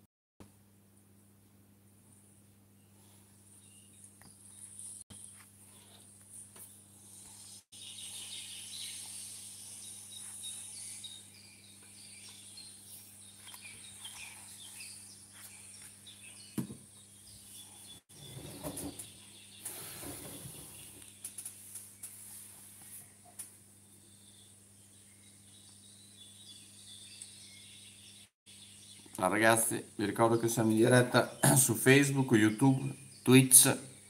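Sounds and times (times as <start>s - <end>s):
small birds chirping: 2.2s - 34.0s.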